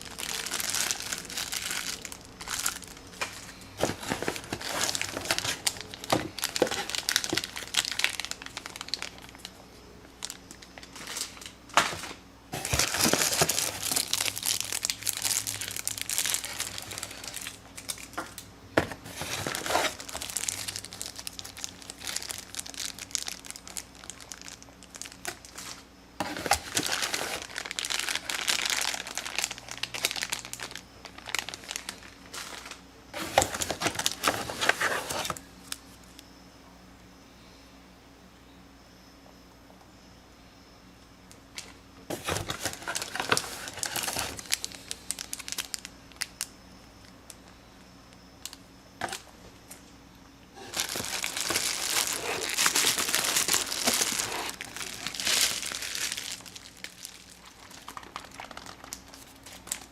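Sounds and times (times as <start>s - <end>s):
packaging crinkling and rustling: 0.0s - 35.9s, 41.6s - 46.5s, 48.4s - 49.8s, 50.6s - 59.9s.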